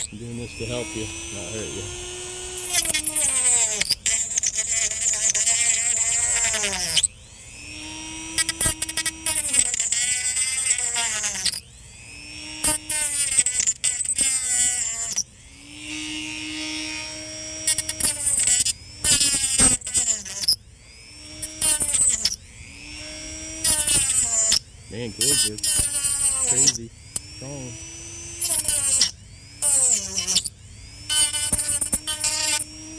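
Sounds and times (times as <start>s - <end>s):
rotary tool whining cutting gourd: 0.0s - 32.9s.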